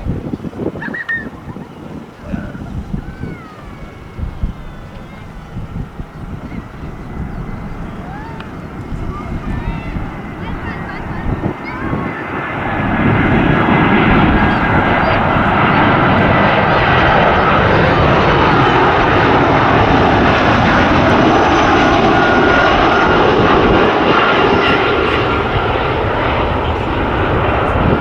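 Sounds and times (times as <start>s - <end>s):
jet airliner passing: 0.0s - 28.0s.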